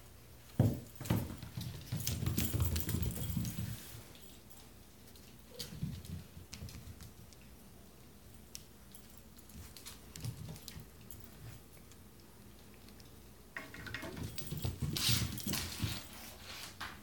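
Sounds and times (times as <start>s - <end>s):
cats scuffling on wooden floor: 0.4s - 17.0s.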